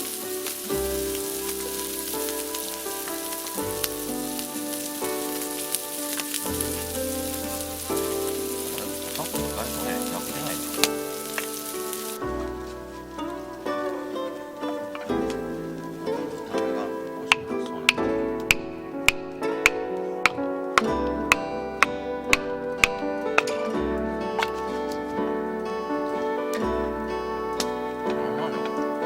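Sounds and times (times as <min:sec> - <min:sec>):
food sizzling and crackling: 0:00.0 - 0:23.7
soft background music: 0:00.0 - 0:29.0.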